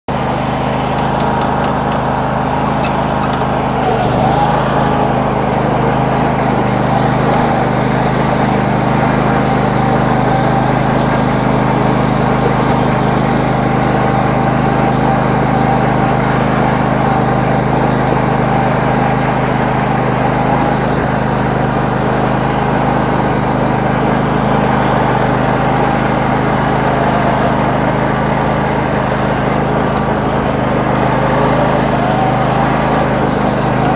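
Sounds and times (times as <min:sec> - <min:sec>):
lawn tractor engine running: 0:00.1 - 0:33.9.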